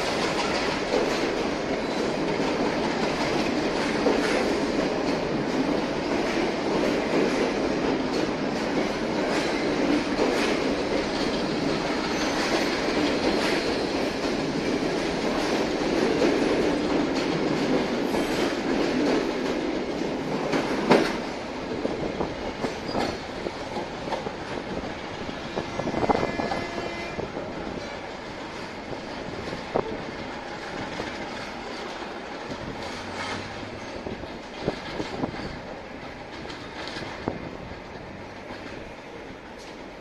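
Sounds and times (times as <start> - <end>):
train wheels clattering over rail joints: 0.0 - 40.0.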